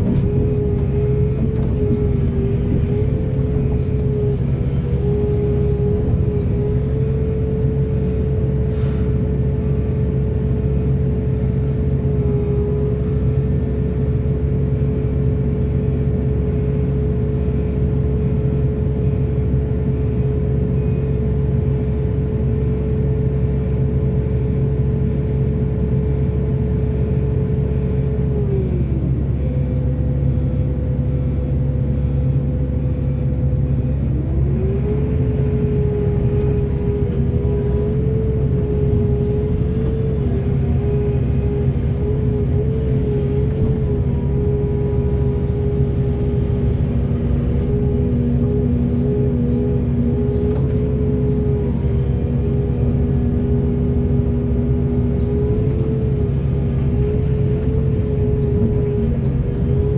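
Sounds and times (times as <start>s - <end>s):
excavator diesel engine running: 0.0s - 23.9s, 27.4s - 59.9s
excavator whine: 0.0s - 59.9s.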